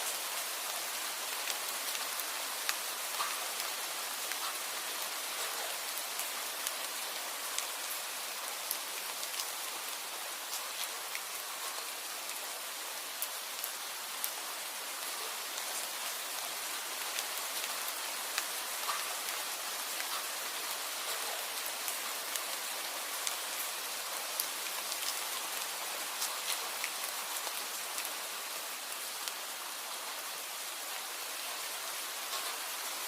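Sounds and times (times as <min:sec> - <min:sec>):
raindrops ticking close by: 0:00.0 - 0:33.0
steady rain falling: 0:00.0 - 0:33.0.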